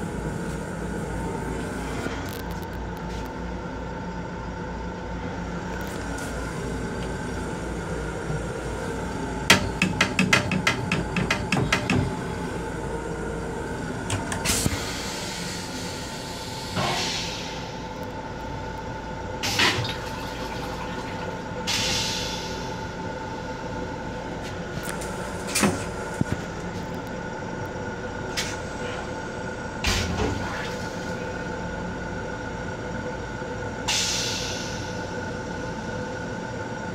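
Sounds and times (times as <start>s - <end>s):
rail car hum: 0.0s - 36.9s.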